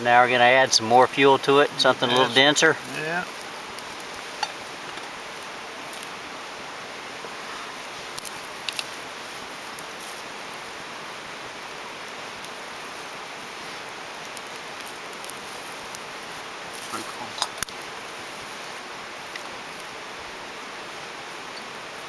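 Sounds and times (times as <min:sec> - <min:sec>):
fire crackles: 0:00.0 - 0:22.0
grass and twigs burning: 0:00.0 - 0:22.0
steady fire hiss: 0:00.0 - 0:22.0.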